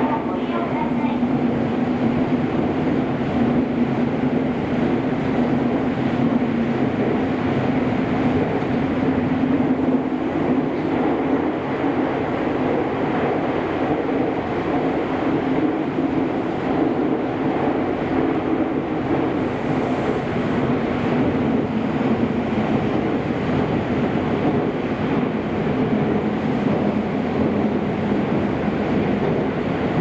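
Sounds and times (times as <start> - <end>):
subway train cabin rumble: 0.0 - 30.0.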